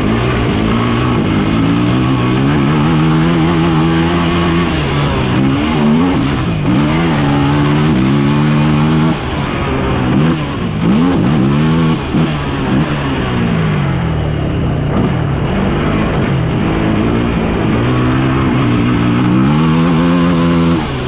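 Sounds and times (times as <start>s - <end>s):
off-road vehicle engine revving: 0.0s - 21.0s
wind and road noise: 0.0s - 21.0s.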